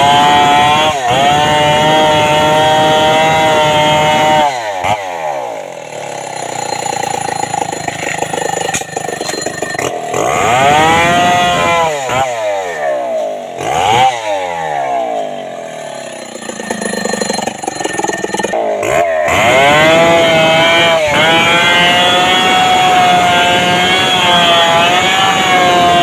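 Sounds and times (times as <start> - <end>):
chainsaw revving and sawing: 0.0 - 26.0.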